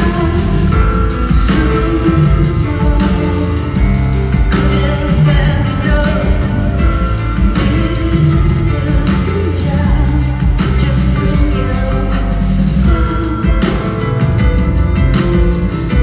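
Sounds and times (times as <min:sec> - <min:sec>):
woman singing: 0:00.0 - 0:14.1
drums: 0:00.0 - 0:16.0
heavy bass: 0:00.0 - 0:16.0.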